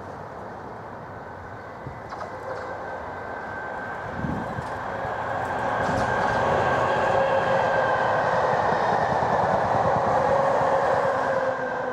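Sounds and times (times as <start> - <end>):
train rail rumble: 0.0 - 11.9.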